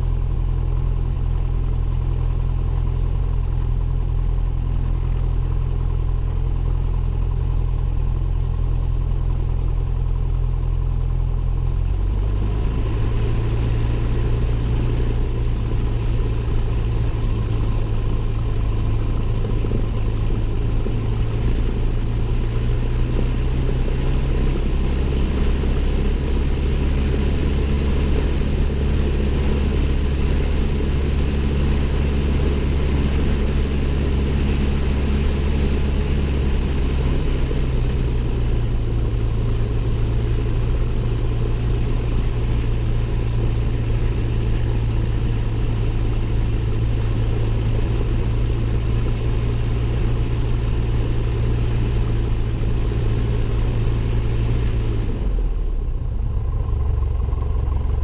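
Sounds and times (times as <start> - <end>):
light aircraft engine and propeller: 0.0 - 58.0.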